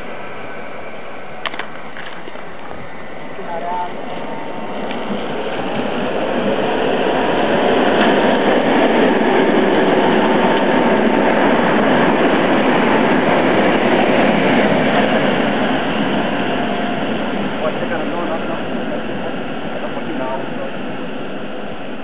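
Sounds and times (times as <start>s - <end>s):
tram wheels and motors rumbling: 0.0s - 22.0s.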